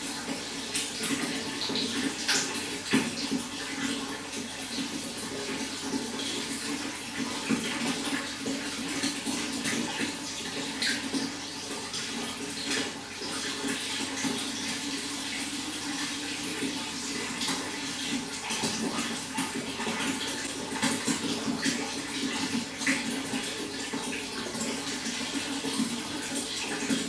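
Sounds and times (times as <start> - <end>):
running water splashing: 0.0 - 27.0.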